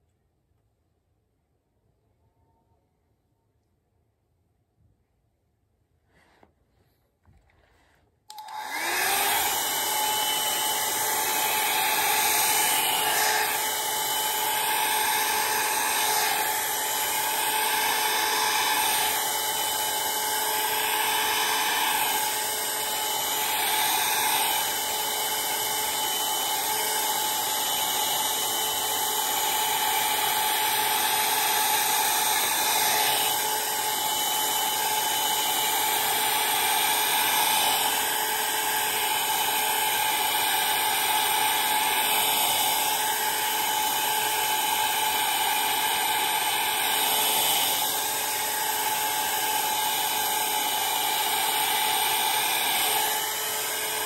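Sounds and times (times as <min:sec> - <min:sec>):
hair dryer running: 0:07.6 - 0:54.0.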